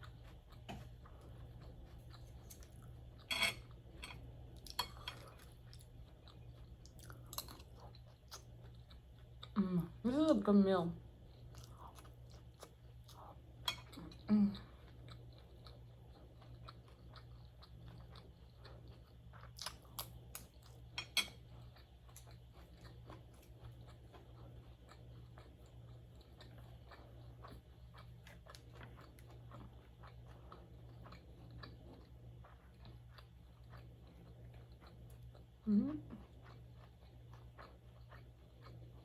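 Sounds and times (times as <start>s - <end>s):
person chewing food: 0.0s - 9.6s, 11.0s - 39.0s
steady low hum: 0.0s - 39.0s.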